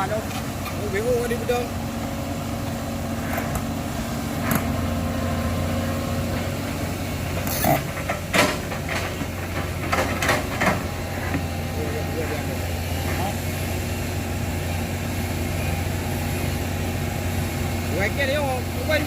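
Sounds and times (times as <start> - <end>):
excavator engine droning: 0.0 - 19.0.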